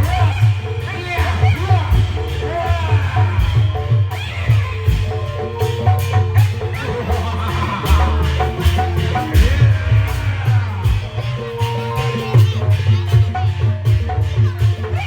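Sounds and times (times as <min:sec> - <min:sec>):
drums beating: 0:00.0 - 0:15.0
heavy pulsing bass: 0:00.0 - 0:15.0.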